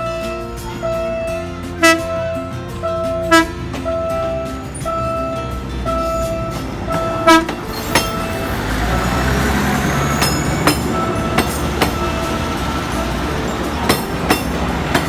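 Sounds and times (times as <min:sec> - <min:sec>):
train rumbling: 0:00.0 - 0:15.0
wheels clacking over rail joints: 0:00.0 - 0:15.0.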